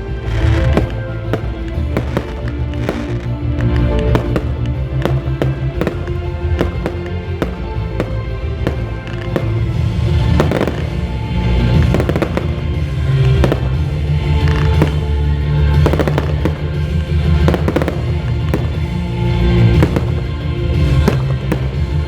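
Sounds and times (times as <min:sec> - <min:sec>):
fireworks bangs and crackles: 0:00.0 - 0:22.0
loud music with heavy bass: 0:00.0 - 0:22.0.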